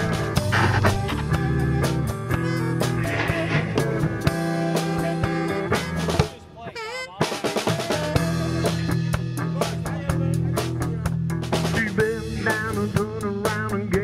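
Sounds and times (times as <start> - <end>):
bass guitar: 0.0 - 6.5, 7.2 - 14.0
bending lead guitar line: 0.0 - 14.0
rock drum beat: 0.0 - 14.0.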